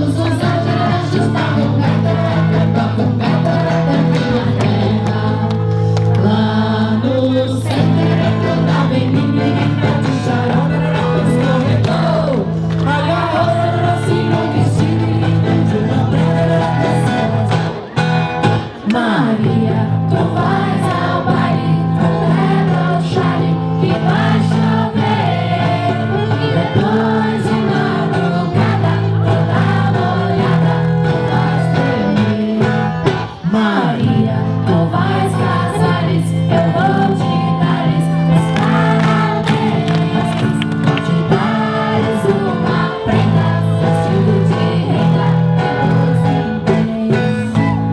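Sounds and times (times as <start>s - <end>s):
group singing: 0.0s - 47.9s
instrumental accompaniment: 7.7s - 47.9s.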